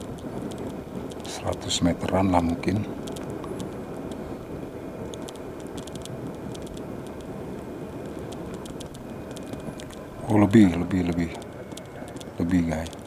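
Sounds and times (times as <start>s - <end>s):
light ticks and rattles: 0.0s - 13.0s.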